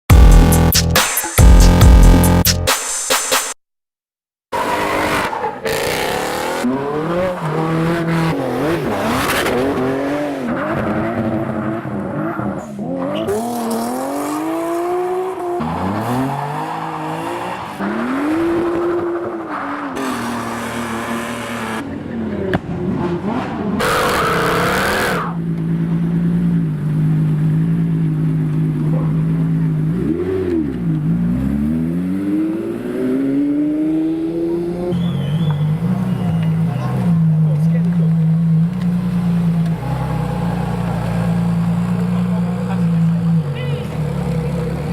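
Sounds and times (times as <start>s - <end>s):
car engines revving: 4.5s - 44.9s.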